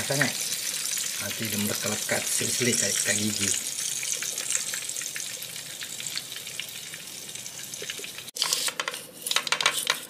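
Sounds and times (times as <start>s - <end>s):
hot oil sizzling and crackling: 0.0s - 8.7s.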